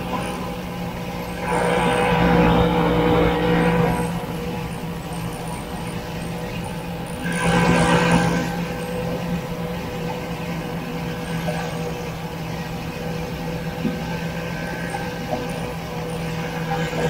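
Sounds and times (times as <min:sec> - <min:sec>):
snowmobile engine running: 0:00.0 - 0:17.0.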